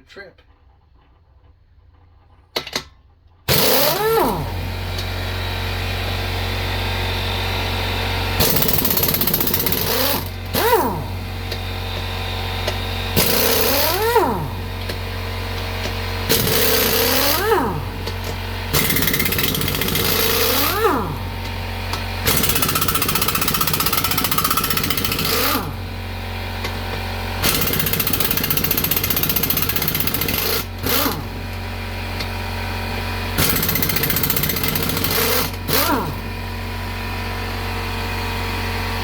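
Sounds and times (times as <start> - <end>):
shop machine humming: 3.5 - 39.0.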